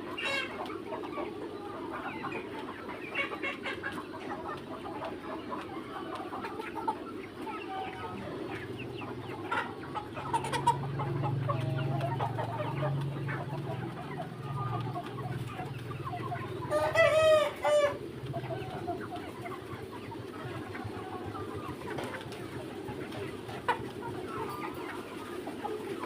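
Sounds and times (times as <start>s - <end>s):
chickens clucking and peeping: 0.0s - 26.0s.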